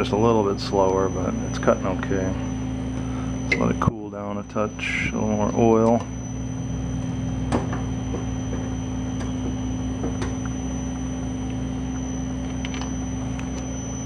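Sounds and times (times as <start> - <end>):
metal lathe motor hum: 0.0 - 14.0.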